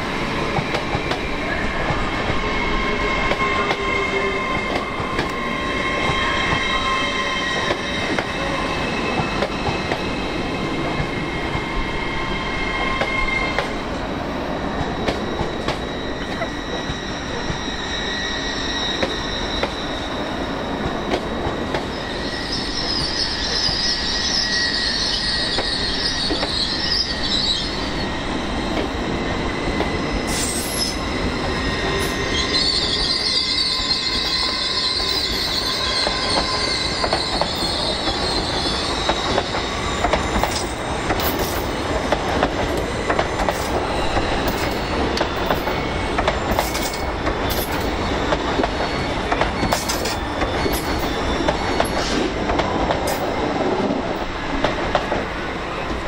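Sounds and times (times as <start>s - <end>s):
train wheels squealing on curve: 0.0s - 56.0s.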